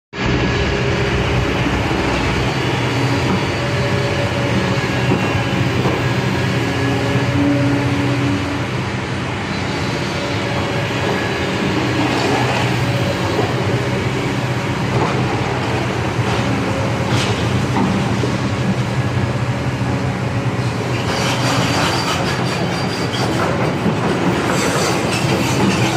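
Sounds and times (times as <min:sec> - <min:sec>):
excavator diesel engine running: 0:00.2 - 0:25.9.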